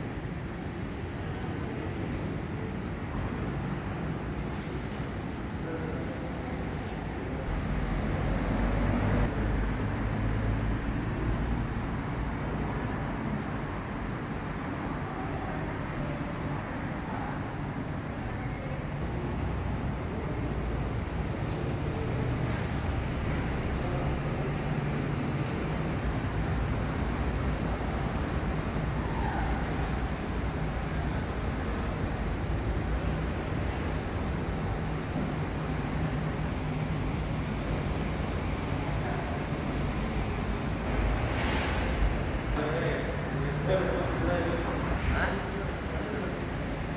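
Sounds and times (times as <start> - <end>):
low rumbling background noise: 0.0 - 46.9.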